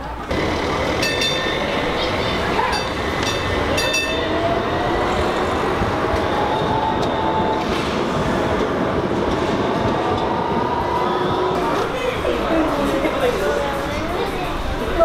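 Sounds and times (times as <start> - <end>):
faint tram whine: 0.0 - 15.0
tram wheels rumbling on rails: 0.0 - 15.0.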